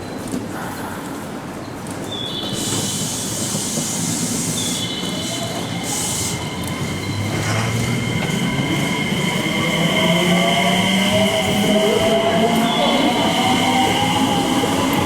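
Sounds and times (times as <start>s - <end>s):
train wheels squealing: 2.1s - 15.0s.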